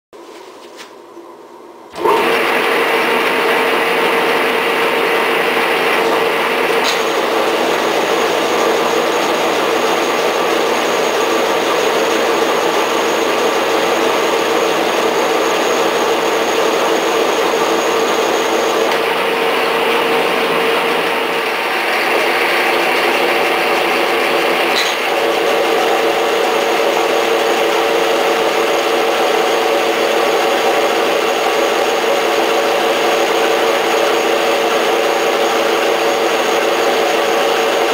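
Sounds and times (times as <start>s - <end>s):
drill press humming: 1.8s - 37.9s.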